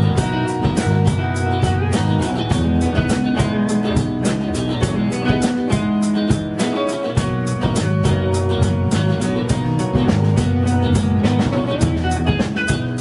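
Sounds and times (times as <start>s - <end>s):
drum kit beat: 0.0s - 13.0s
electric guitars: 0.0s - 13.0s
instrumental live band: 0.0s - 13.0s
keyboard: 0.0s - 13.0s.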